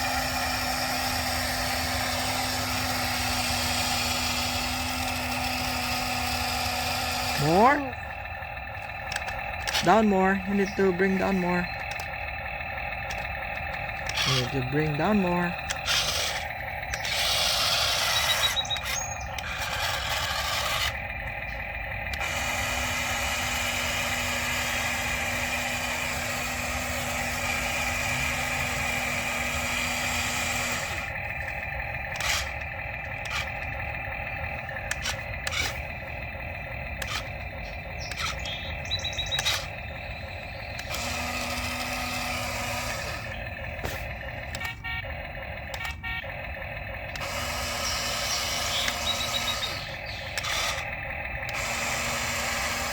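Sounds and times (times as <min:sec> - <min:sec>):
small electric motors whirring: 0:00.0 - 0:52.9
sharp plastic clicks: 0:00.1 - 0:52.9.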